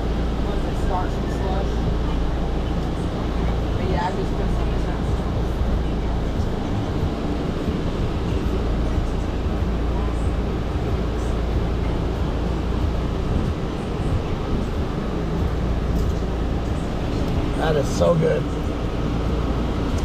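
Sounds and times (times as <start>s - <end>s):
mechanical drone with fan rush: 0.0s - 20.0s.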